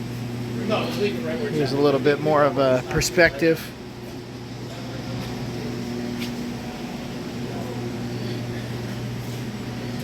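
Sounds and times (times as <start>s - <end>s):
shop machinery hum: 0.0s - 10.0s.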